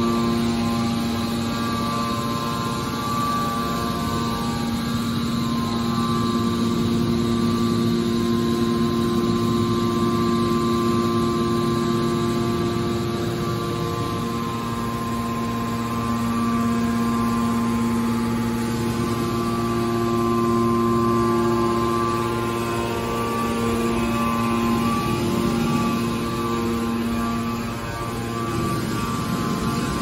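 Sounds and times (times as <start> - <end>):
hydraulic pump motor hum: 0.0 - 30.0.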